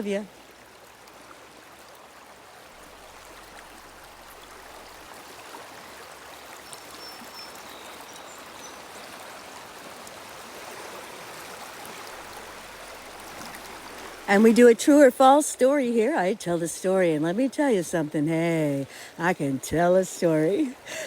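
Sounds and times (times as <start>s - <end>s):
river water flowing over rocks: 0.0s - 21.0s.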